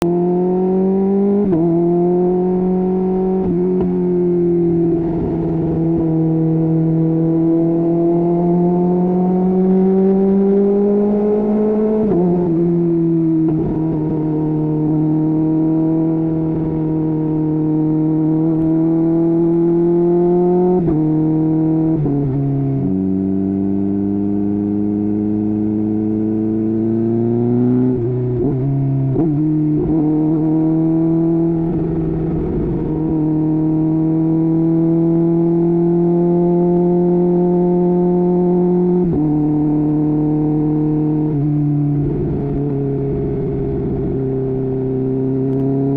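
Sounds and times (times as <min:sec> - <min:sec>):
motorcycle engine at speed: 0:00.0 - 0:45.9.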